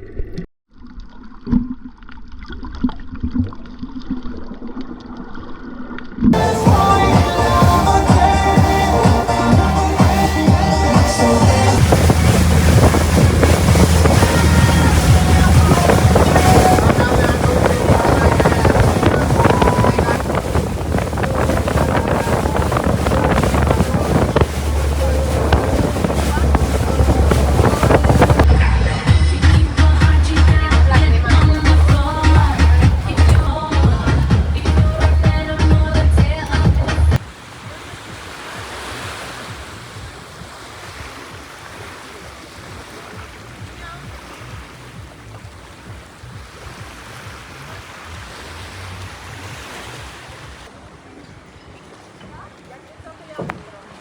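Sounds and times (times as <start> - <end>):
wind noise on microphone: 6.3 - 50.8
sea waves washing: 6.3 - 54.0
boat engine running: 6.4 - 50.7.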